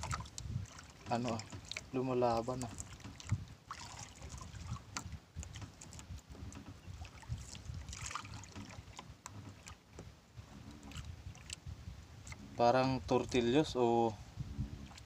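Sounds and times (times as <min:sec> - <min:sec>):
boat rumbling on water: 0:00.0 - 0:15.0.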